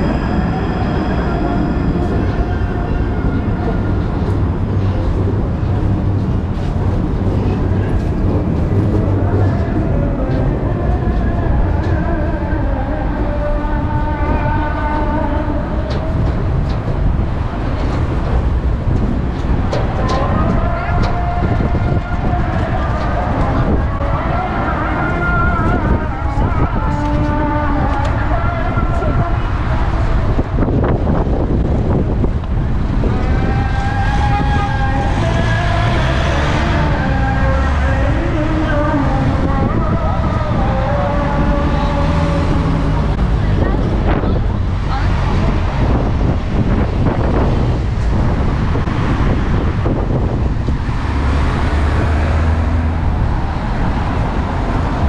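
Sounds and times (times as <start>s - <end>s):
passing vehicles rumble: 0.0s - 55.0s.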